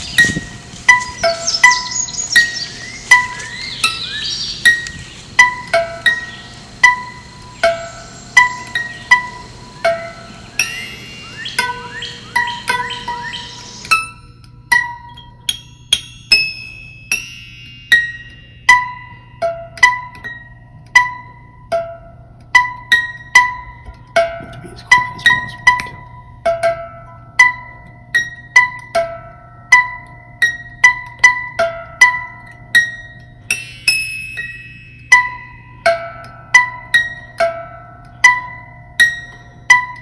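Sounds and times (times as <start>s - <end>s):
plucked bell-like melody: 0.0s - 40.0s.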